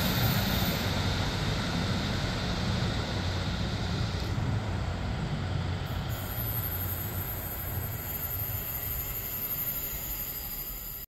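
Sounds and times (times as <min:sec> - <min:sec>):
thin high whine: 0:00.0 - 0:11.0
train rumbling through station: 0:00.0 - 0:11.0.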